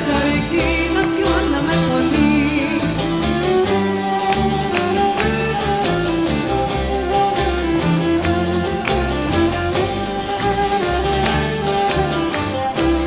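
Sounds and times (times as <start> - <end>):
bass line: 0.0 - 13.0
bowed viola melody: 0.0 - 13.0
plucked lute strokes: 0.0 - 13.0.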